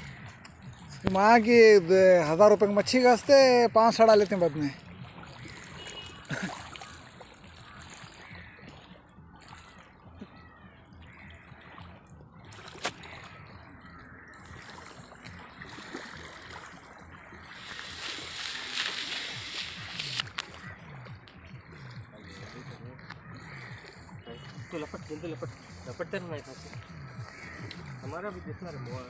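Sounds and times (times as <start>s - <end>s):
small waves lapping shore: 0.0s - 29.0s.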